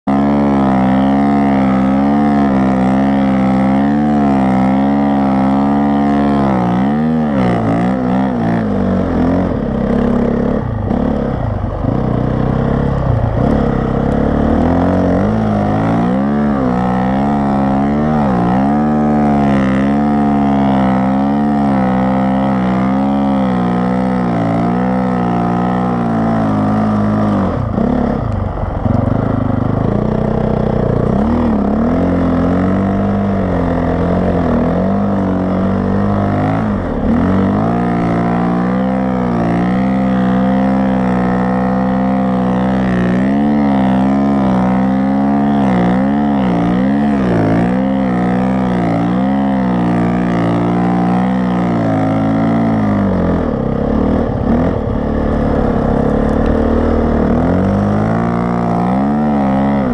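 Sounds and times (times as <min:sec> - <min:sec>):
snowbike engine revving: 0:00.0 - 0:59.9.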